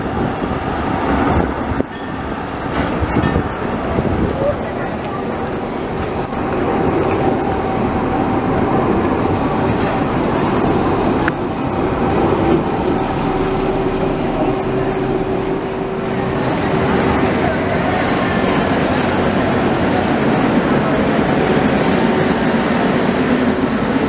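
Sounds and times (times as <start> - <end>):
tram drive whine: 0.0 - 24.0
tram rumbling over track: 0.0 - 24.0.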